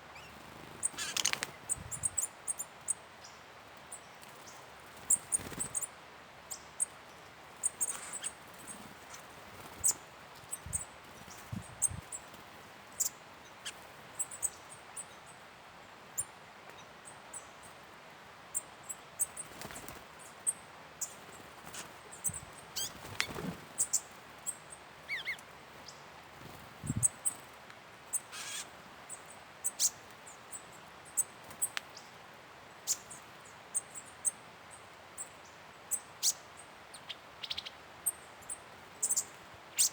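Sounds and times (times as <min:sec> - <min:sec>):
small birds chirping: 0:00.0 - 0:15.4, 0:18.5 - 0:39.9.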